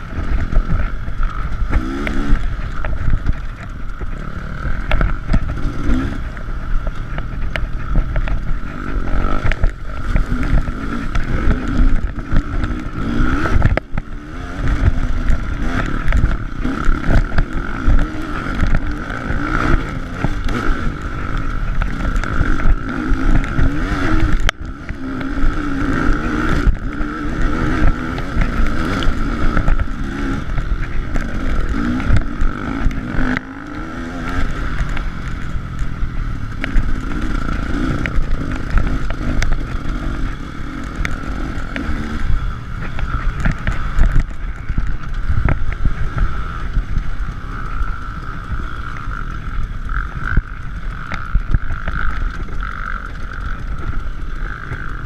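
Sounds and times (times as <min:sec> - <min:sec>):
motorcycle engine under load: 0:00.0 - 0:55.0.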